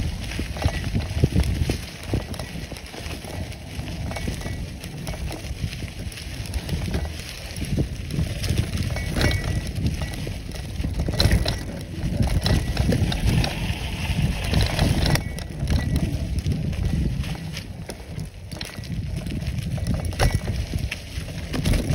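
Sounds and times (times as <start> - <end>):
bicycle rattling over bumps: 0.0 - 21.9
bicycle tyres crunching on dirt: 0.0 - 21.9.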